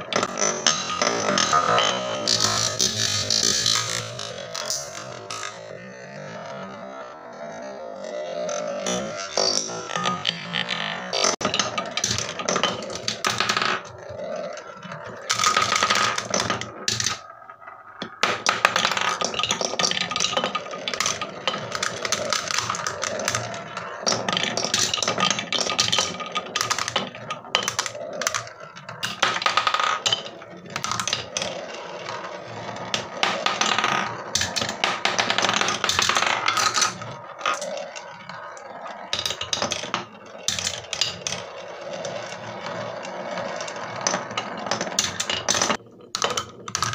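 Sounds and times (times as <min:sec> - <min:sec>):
marbles rattling down wooden run: 0:00.0 - 0:07.2, 0:07.8 - 0:46.9.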